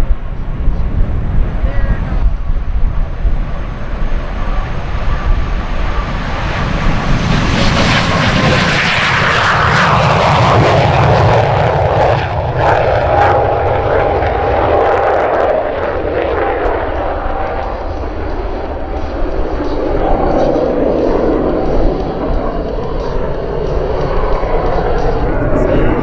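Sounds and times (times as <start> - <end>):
jet fighter passing: 0.0 - 26.0.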